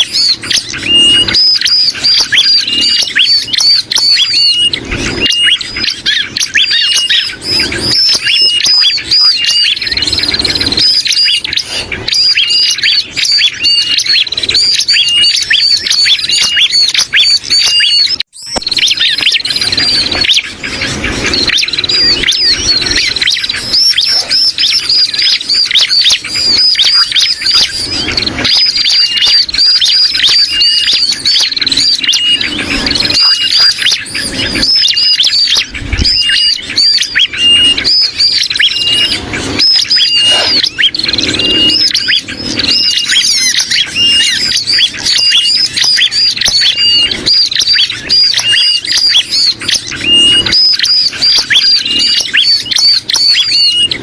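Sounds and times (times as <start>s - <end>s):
high-pitched bird chattering: 0.0s - 54.0s.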